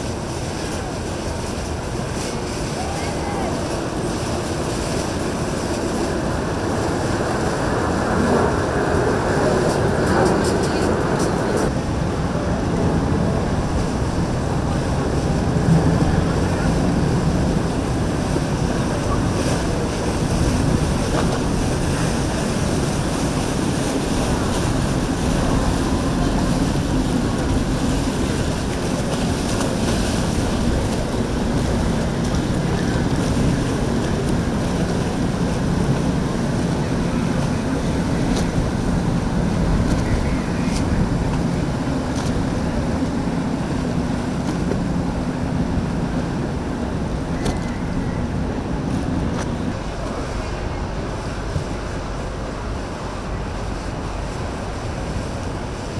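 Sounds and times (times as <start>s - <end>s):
motorboat engines running: 0.0s - 55.9s
rushing water: 0.0s - 55.9s
wind buffeting microphone: 0.0s - 55.9s.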